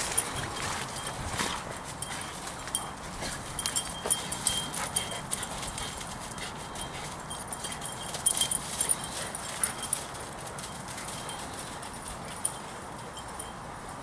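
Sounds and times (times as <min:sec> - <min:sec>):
paws thudding on soft ground: 0:00.0 - 0:12.9
metal collar tags jingling: 0:00.0 - 0:13.7.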